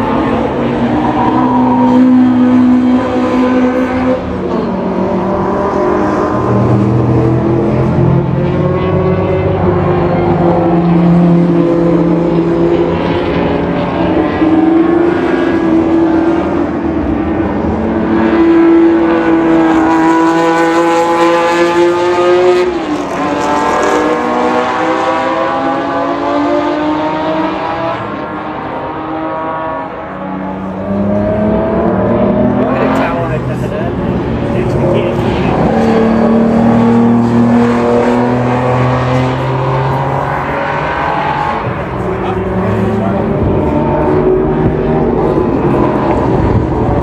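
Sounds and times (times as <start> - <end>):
race car engines revving high: 0.0 - 47.0.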